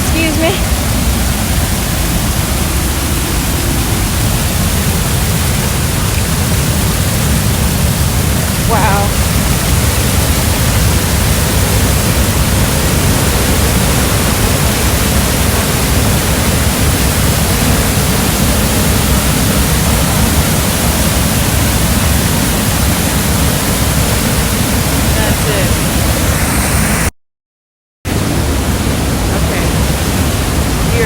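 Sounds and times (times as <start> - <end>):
waterfall rushing: 0.0 - 27.1, 28.1 - 31.0.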